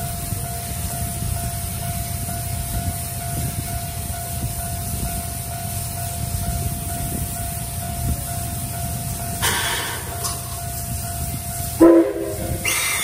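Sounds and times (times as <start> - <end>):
level crossing warning signal: 0.0 - 13.0
steam locomotive rumbling: 0.0 - 13.0.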